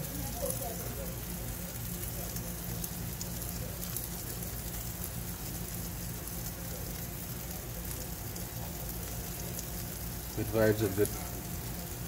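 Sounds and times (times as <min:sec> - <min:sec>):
low steady rumble: 0:00.0 - 0:12.0
steaks sizzling on a grill: 0:00.0 - 0:12.0.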